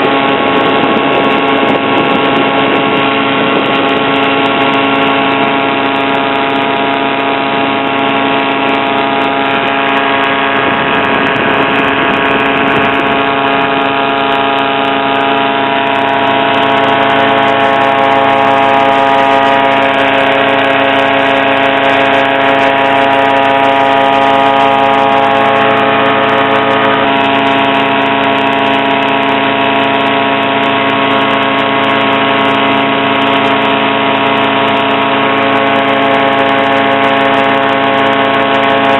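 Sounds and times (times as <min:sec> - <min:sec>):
aircraft engine running: 0:00.0 - 0:38.9.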